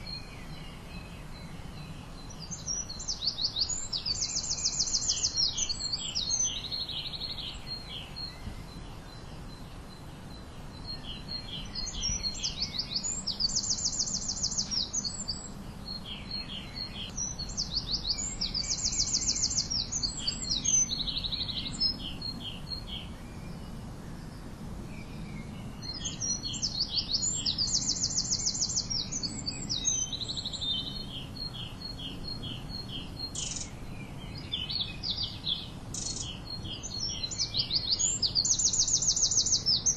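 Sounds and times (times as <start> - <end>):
faint low background noise: 0.0 - 39.9
songbirds trilling and chirping: 0.0 - 39.9.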